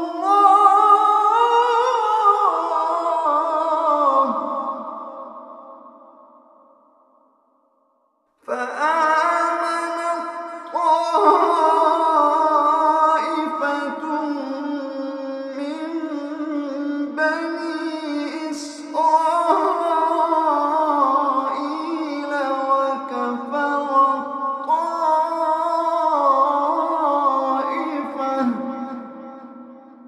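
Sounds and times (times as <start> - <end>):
man chanting melodically: 0.0 - 5.3, 8.4 - 29.9.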